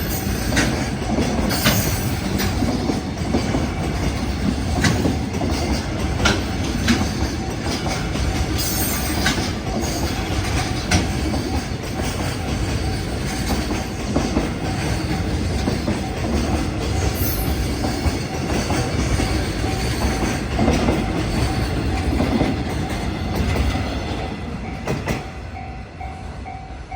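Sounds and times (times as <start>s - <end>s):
freight train wagons rumbling: 0.0s - 26.9s.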